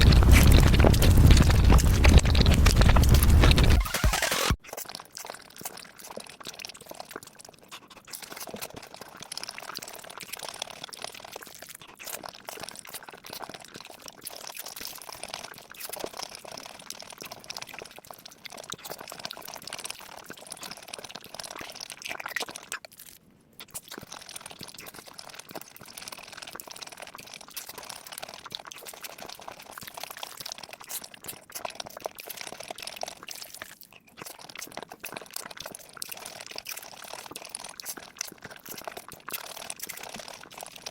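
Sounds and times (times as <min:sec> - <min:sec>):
wet chewing and crunching: 0:00.0 - 0:40.9.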